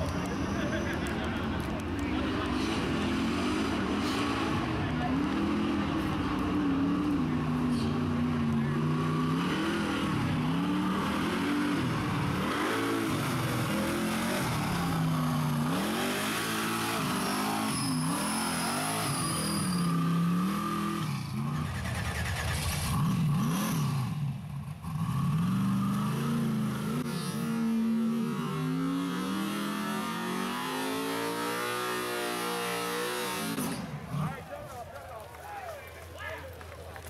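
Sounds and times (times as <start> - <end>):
buggy engine revving hard: 0.0 - 34.4.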